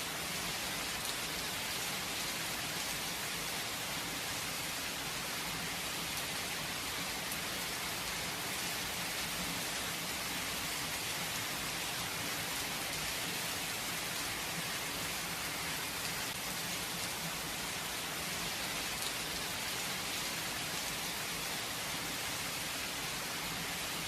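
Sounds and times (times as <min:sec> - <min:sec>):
rain falling on a surface: 0:00.0 - 0:24.0.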